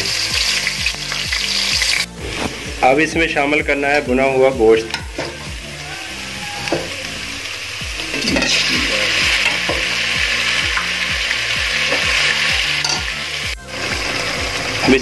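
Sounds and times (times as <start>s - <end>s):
onion sizzling in hot oil: 0.0s - 3.0s, 4.3s - 15.0s.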